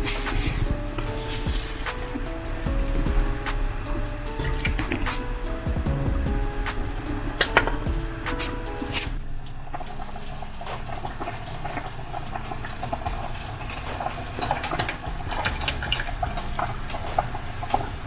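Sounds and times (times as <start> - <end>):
pot boiling with bubbling pops: 0.0 - 18.0.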